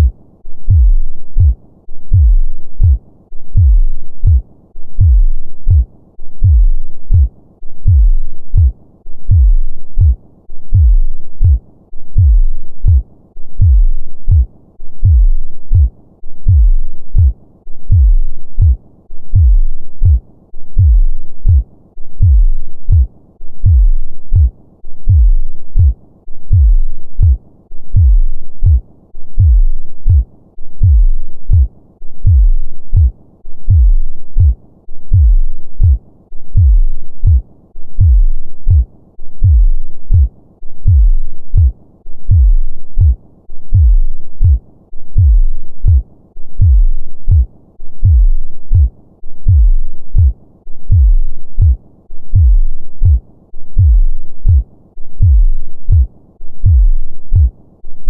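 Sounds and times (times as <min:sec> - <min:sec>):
heartbeat thumps: 0:00.0 - 0:04.4, 0:05.0 - 0:13.0, 0:13.6 - 0:37.4, 0:38.0 - 0:57.6.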